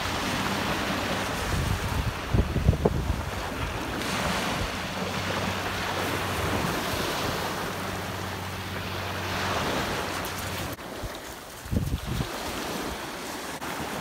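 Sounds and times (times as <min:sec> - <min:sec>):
small waves breaking on beach: 0:00.0 - 0:14.0
wind buffeting microphone: 0:00.0 - 0:14.0.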